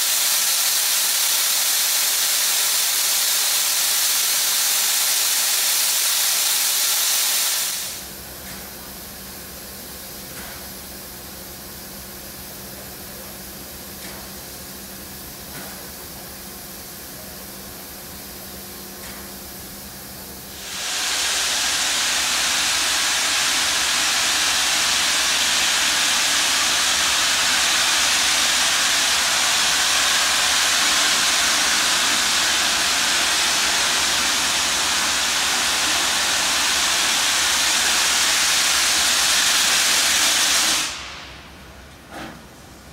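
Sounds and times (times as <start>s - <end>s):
steam hissing: 0.0s - 42.9s.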